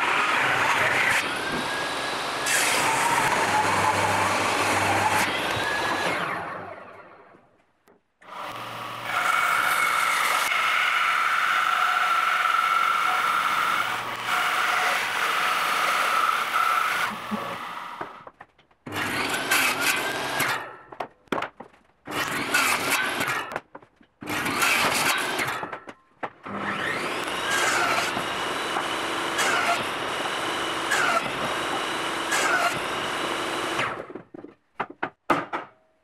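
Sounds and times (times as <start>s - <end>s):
band saw cutting board: 0.0s - 6.9s, 8.2s - 18.3s, 18.9s - 20.7s, 22.1s - 23.6s, 24.2s - 34.2s
table saw cutting: 0.0s - 7.3s, 8.2s - 18.3s, 18.9s - 20.8s, 22.1s - 23.5s, 24.2s - 25.8s, 26.4s - 34.2s.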